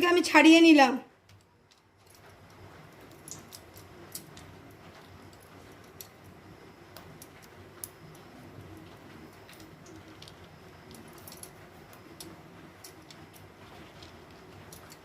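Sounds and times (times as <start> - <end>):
faint steady hiss: 0.0 - 15.0
dried cloves clicking: 1.2 - 15.0.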